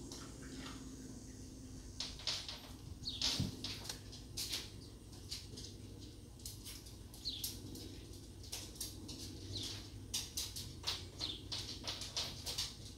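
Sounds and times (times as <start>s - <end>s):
low steady hum: 0.0s - 12.9s
sparrows chirping: 0.1s - 12.8s.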